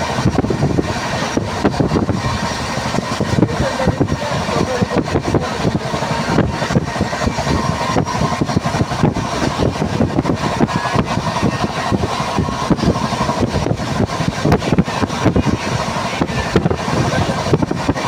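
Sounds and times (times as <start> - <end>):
train running gear rumble: 0.0 - 18.0.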